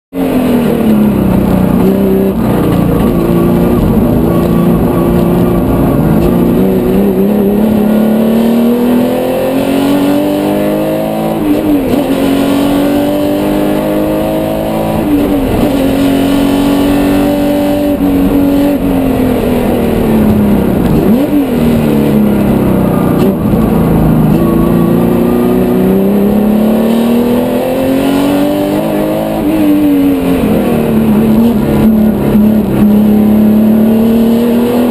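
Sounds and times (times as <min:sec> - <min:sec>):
race car engine revving: 0:00.1 - 0:34.9.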